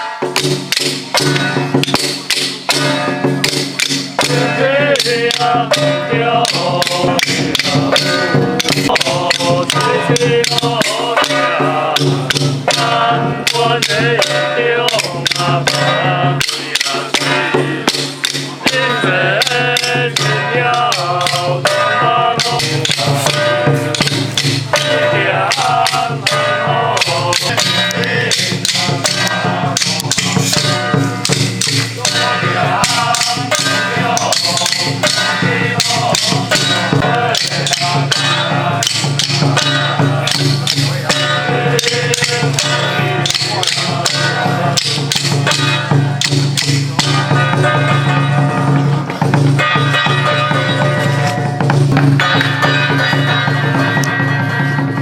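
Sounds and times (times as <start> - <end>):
rapid wood block and gong strikes: 0.0 - 55.0
melody played or sung: 4.0 - 51.6.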